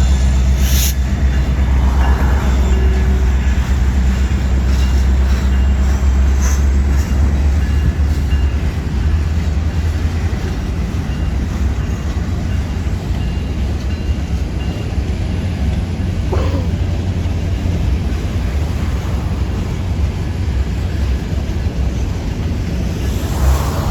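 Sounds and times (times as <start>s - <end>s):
diesel locomotive drone: 0.0s - 23.9s
freight cars rumbling: 0.0s - 23.9s.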